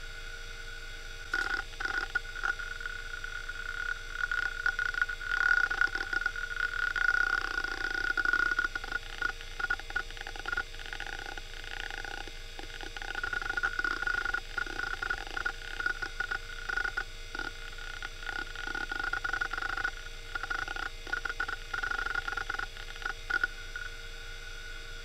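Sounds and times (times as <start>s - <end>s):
hard drive spinning whine: 0.0s - 25.0s
hard drive heads clicking: 1.3s - 23.9s.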